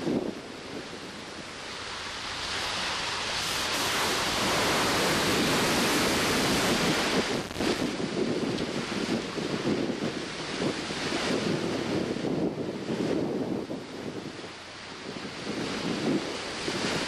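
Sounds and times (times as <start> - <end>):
water rushing along boat hull: 0.0 - 17.0.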